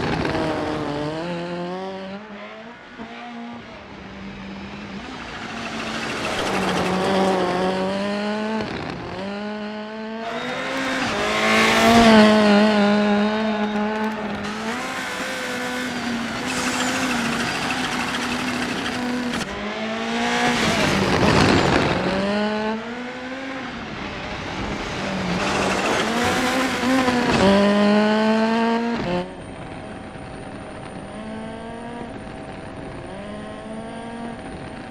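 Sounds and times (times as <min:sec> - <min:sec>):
rally car engine accelerating: 0:00.0 - 0:34.9
tyres rushing on road: 0:00.0 - 0:34.9.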